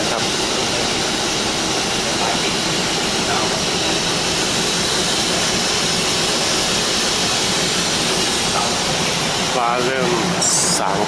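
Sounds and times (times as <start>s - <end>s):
train rushing hiss: 0.0s - 11.0s.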